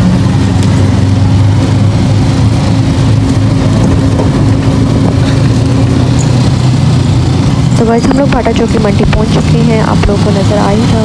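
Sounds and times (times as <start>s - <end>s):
auto-rickshaw engine humming: 0.0s - 11.0s.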